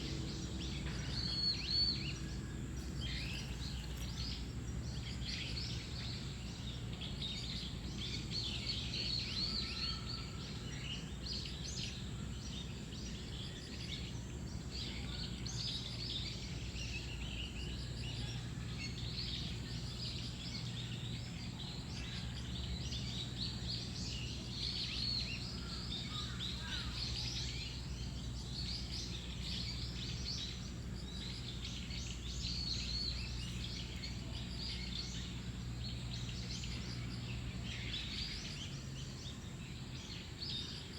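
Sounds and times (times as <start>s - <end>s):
small birds chirping: 0.0s - 40.9s
steady low hum: 0.0s - 40.9s.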